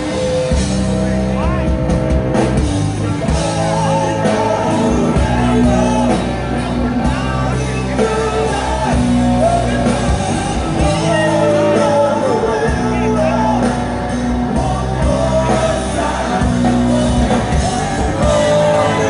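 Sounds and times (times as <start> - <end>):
live rock band playing: 0.0 - 19.0
person singing: 3.1 - 19.0.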